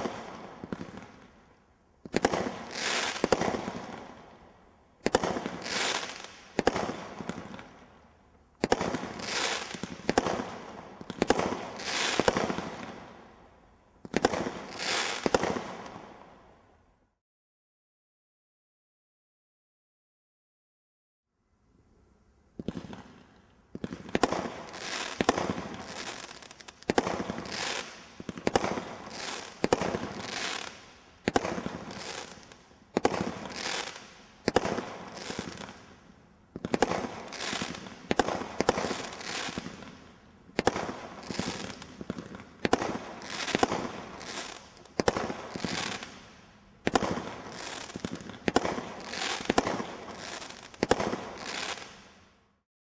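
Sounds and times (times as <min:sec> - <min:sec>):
firework shots cracking and hissing: 0:00.0 - 0:13.4, 0:14.0 - 0:16.4, 0:22.5 - 0:52.6.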